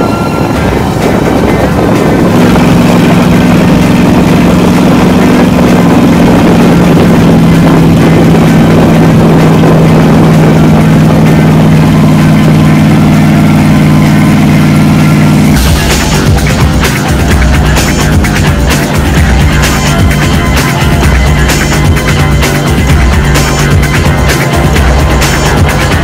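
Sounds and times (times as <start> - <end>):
boat engine droning: 0.0 - 26.0
wake water rushing: 0.0 - 26.0
wind rushing: 0.0 - 26.0.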